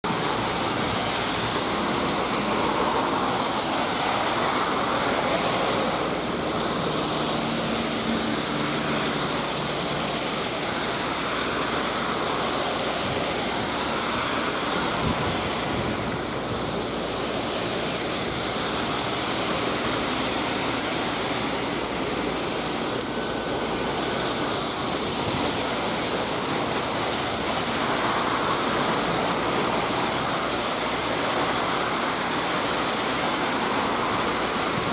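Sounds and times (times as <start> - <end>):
cars swishing past: 0.0 - 32.8
heavy rain on a wet road: 0.0 - 34.9.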